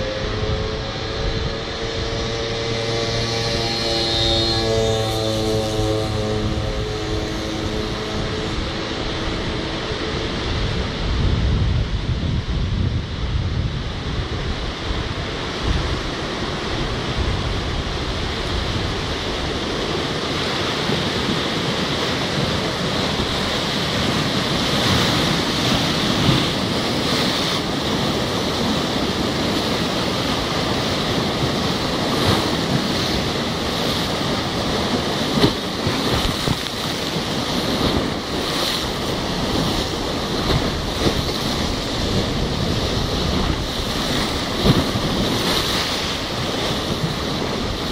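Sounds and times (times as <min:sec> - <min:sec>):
wind buffeting microphone: 0:00.0 - 0:47.9
waves breaking against seawall: 0:02.2 - 0:10.6, 0:14.7 - 0:47.9.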